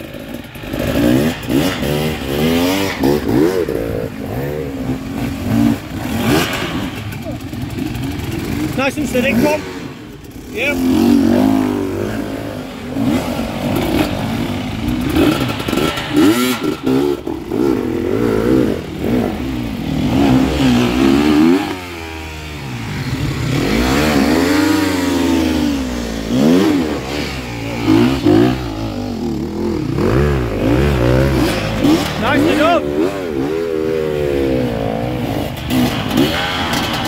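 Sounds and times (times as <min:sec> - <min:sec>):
motorcycle engines revving: 0:00.0 - 0:37.0.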